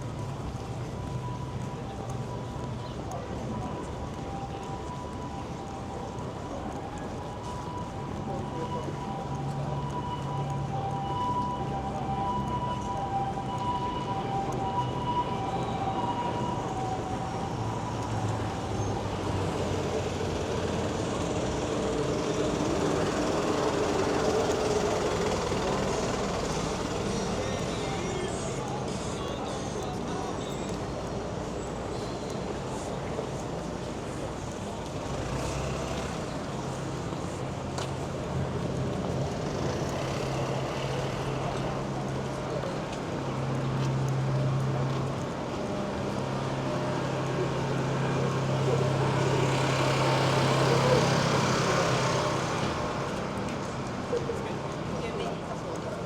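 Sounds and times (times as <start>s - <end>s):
traffic rumble: 0.0s - 56.0s.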